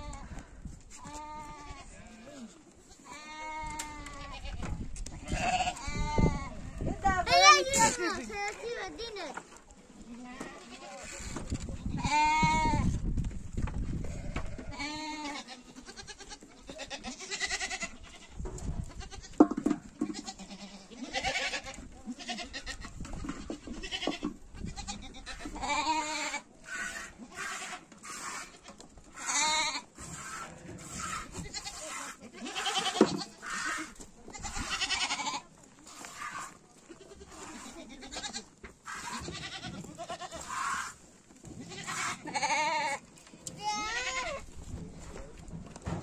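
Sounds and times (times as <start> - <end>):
goats bleating: 1.0 - 9.1, 10.1 - 12.9, 14.0 - 19.4, 20.0 - 41.0, 41.6 - 44.5.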